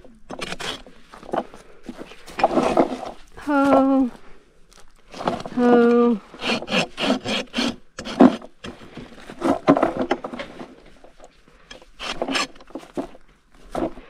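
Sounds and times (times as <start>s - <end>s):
hoof rasp filing hoof: 0.1s - 3.8s, 5.1s - 14.0s.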